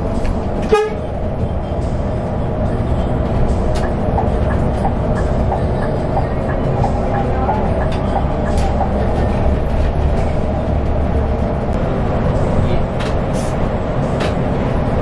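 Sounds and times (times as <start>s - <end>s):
engine and road drone: 0.0s - 15.0s.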